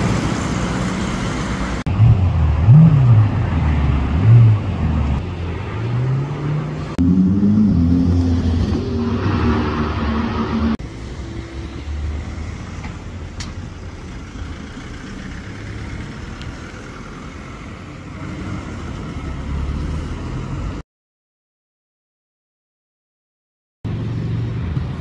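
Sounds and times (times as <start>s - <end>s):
street traffic: 0.0s - 20.8s, 23.8s - 25.0s.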